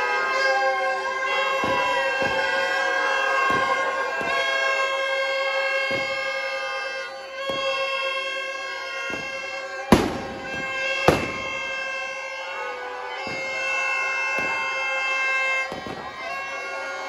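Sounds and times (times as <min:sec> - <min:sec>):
loud firecracker bangs: 0:00.3 - 0:17.0
firecrackers popping: 0:01.3 - 0:12.2, 0:13.1 - 0:17.0.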